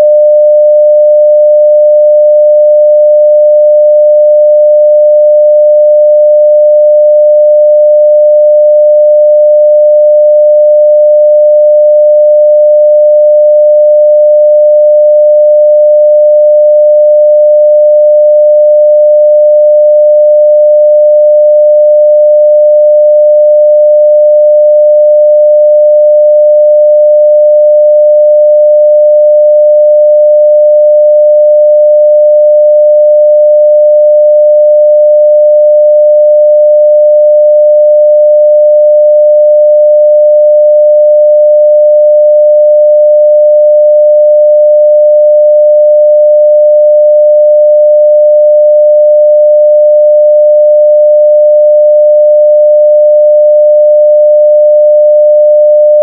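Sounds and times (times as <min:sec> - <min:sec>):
sine-wave test tone: 0:00.0 - 0:56.0.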